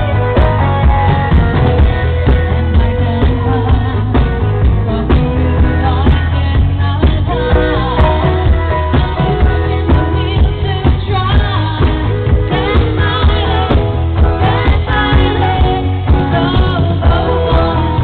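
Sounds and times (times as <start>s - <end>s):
bass line: 0.0s - 18.0s
drums: 0.0s - 18.0s
keyboard: 0.0s - 18.0s
woman singing: 0.0s - 18.0s.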